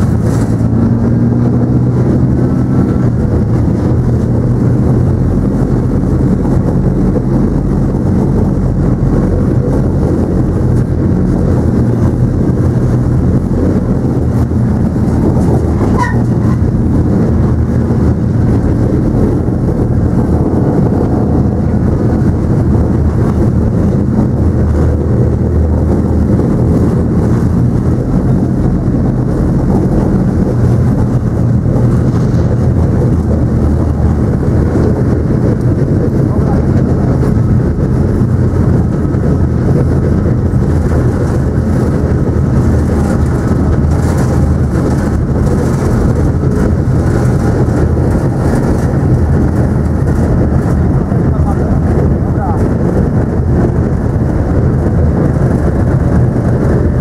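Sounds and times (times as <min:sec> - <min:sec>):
tank engine low drone: 0:00.0 - 0:57.0.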